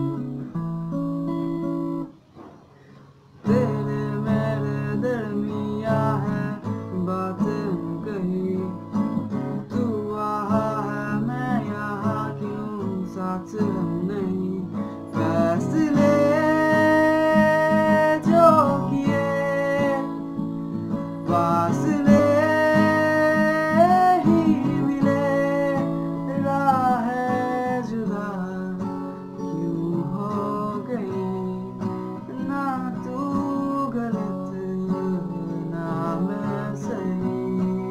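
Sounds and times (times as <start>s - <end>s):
strummed acoustic guitar: 0.0s - 37.9s
man singing: 3.4s - 37.9s.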